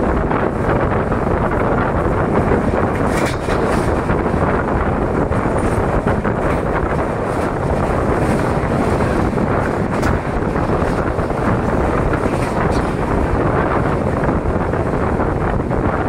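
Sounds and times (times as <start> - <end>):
train wheels rumbling on rails: 0.0 - 16.0
wind buffeting microphone: 0.0 - 16.0.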